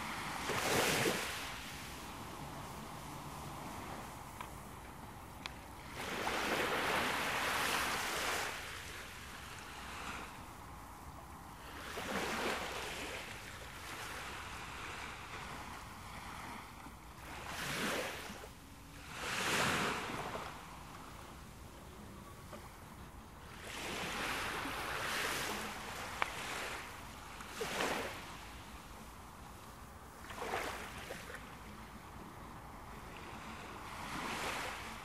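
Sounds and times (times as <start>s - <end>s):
surf rushing on shore: 0.0s - 29.3s, 30.2s - 35.0s
low background hiss: 0.0s - 35.0s.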